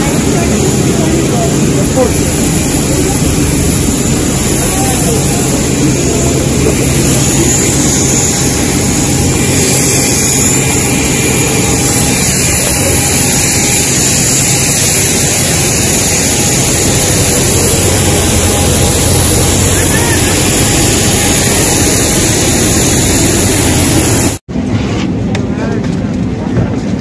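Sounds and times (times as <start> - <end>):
thin high whine: 0.0 - 24.4
jet engine rumble: 0.0 - 27.0.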